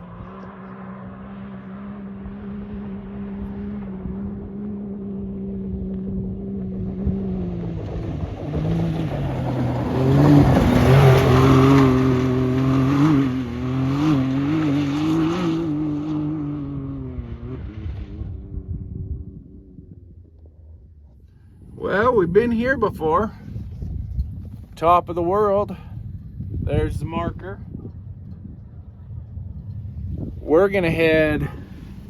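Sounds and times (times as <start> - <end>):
off-road vehicle engine driving: 0.0 - 32.0.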